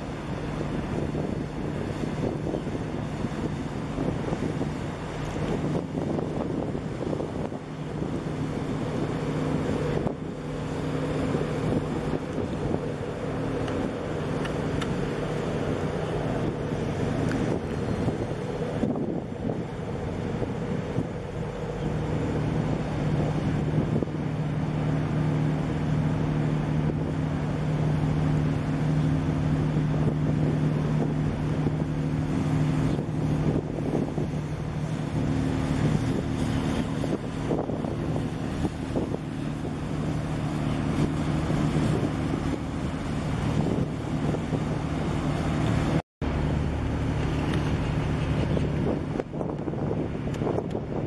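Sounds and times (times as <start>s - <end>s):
ship engines droning: 0.0s - 51.0s
wind buffeting microphone: 0.0s - 51.0s.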